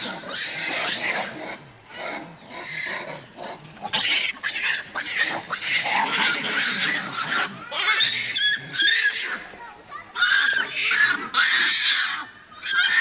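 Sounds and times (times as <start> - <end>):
monkeys screaming: 0.0 - 3.2, 3.8 - 9.5, 10.1 - 13.0.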